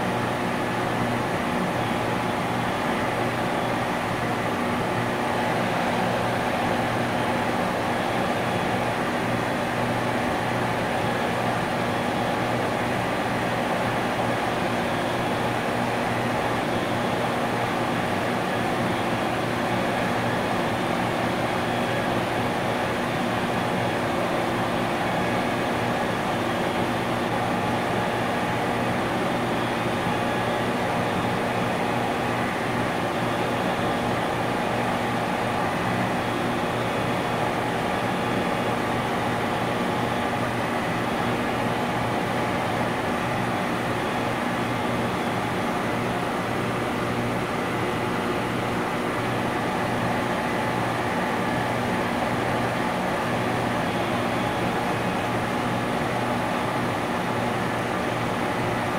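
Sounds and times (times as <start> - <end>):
industrial compressor running: 0.0 - 58.9.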